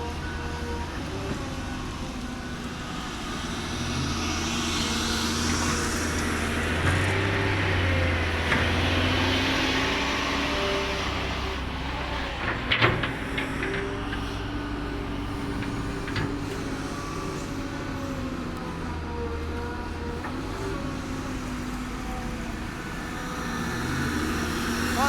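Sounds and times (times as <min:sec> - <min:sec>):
diesel machinery engine hum: 0:00.0 - 0:25.0.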